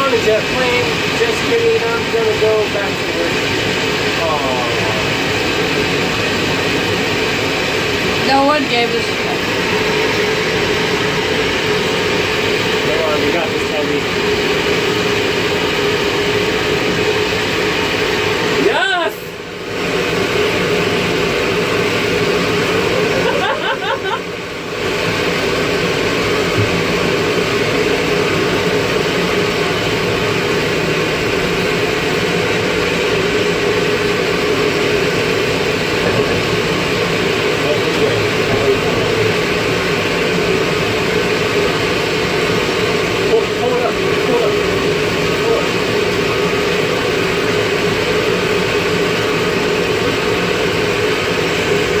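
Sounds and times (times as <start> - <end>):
jet engine noise: 0.0 - 52.0
steady whine: 0.0 - 52.0
tug engine drone: 0.0 - 52.0.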